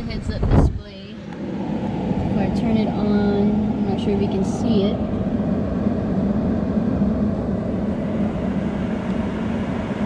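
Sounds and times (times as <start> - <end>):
car blower fan humming: 0.0 - 10.0.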